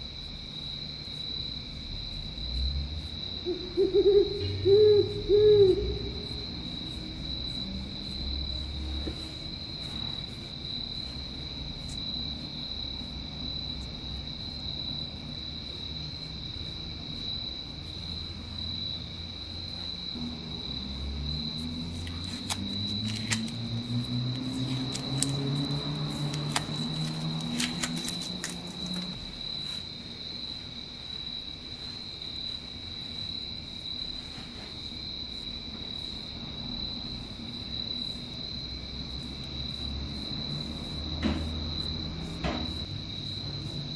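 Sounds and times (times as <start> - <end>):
crickets chirring: 0.0 - 43.9.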